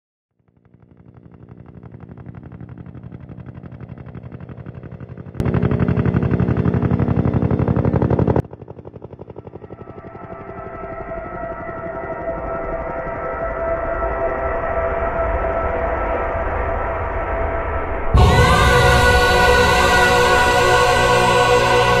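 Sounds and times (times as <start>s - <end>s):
helicopter rotor beating: 0.4s - 14.9s, 18.2s - 22.0s.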